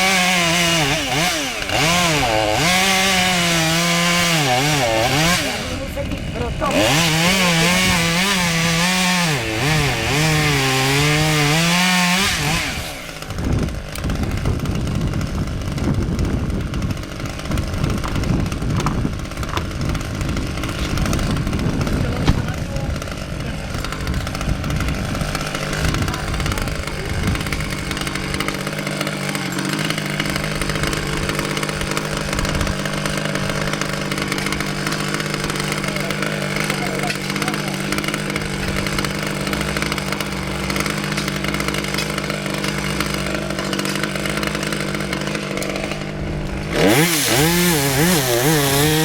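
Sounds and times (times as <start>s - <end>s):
chainsaw cutting wood: 0.0s - 49.0s
chainsaw idling: 0.0s - 49.0s.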